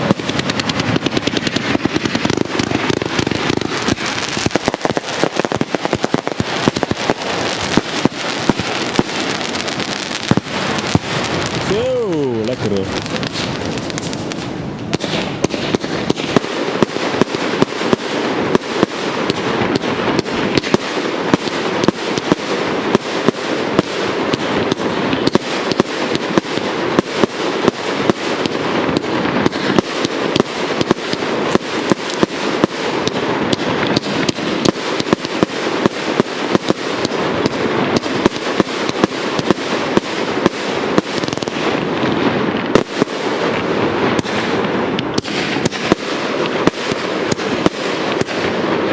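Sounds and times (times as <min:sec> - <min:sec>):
firework shell bursts and bangs: 0:00.0 - 0:11.8, 0:12.5 - 0:48.9
crackle of burning fireworks: 0:00.0 - 0:48.9.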